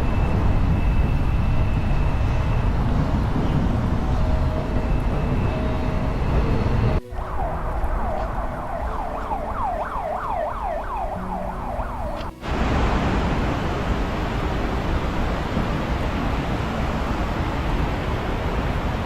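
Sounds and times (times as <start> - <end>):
siren sweeping up and down: 0.0 - 18.6
outdoor traffic noise: 0.0 - 19.0.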